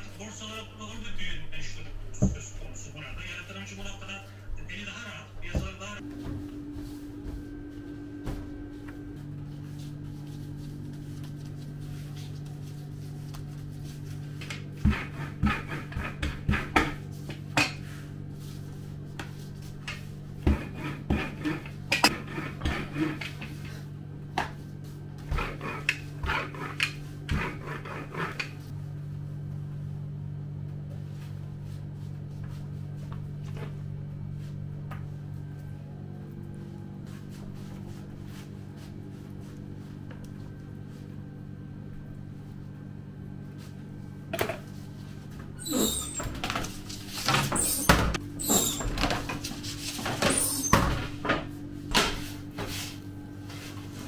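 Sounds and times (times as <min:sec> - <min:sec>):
kitchen equipment hum: 0:00.0 - 0:54.0.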